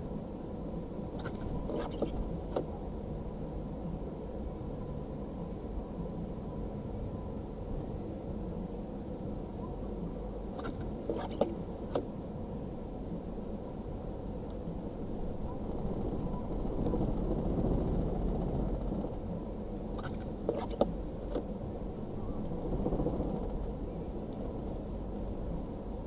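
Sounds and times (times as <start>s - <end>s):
low vehicle rumble: 0.0s - 26.0s.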